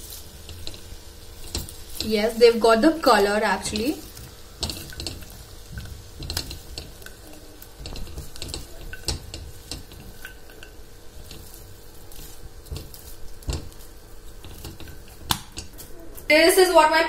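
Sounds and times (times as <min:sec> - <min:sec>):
spatula stirring popcorn in a pan: 0:00.0 - 0:16.3.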